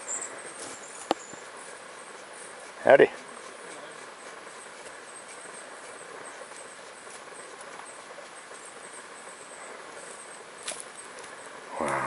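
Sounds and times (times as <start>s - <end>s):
faint insect chirping: 0.0s - 12.0s
steady low hiss: 0.0s - 12.0s.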